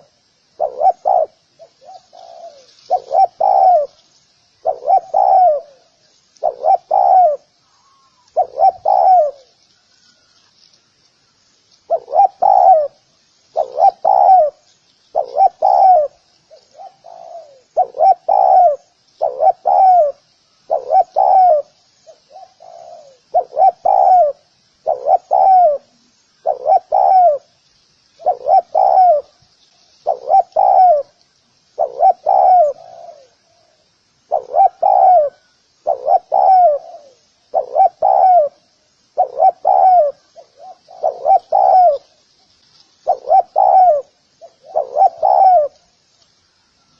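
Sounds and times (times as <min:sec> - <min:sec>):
dove cooing: 0:00.0 - 0:04.0, 0:04.6 - 0:10.4, 0:11.9 - 0:27.5, 0:28.2 - 0:29.4, 0:30.0 - 0:31.2, 0:31.8 - 0:42.3, 0:43.0 - 0:45.9
faint high hiss: 0:00.0 - 0:46.9.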